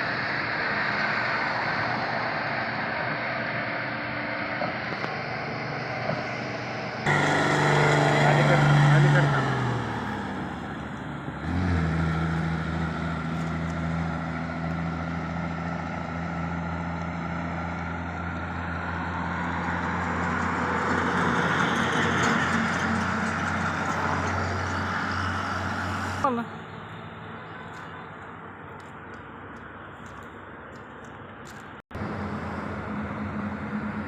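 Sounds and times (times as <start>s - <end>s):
road and wind hiss: 0.0s - 34.0s
vehicle engine running: 4.2s - 34.0s.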